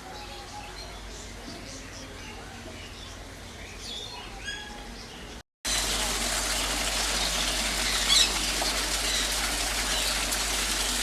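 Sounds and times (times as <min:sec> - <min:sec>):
small birds chirping: 0:00.1 - 0:10.4.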